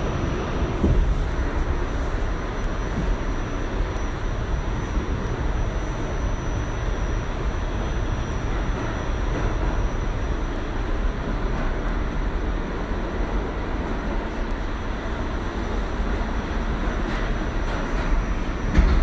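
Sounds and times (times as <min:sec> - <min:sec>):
faint high whine: 0:00.0 - 0:19.0
subway car rumble: 0:00.0 - 0:19.0.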